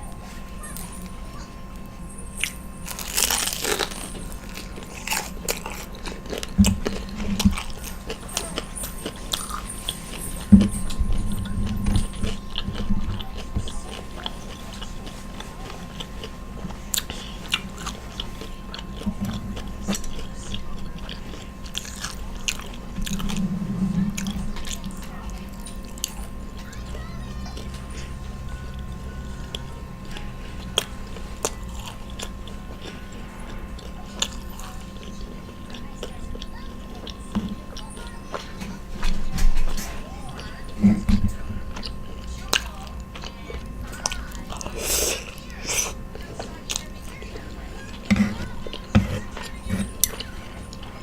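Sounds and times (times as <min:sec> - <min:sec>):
crunching and chewing food: 0:00.0 - 0:51.0.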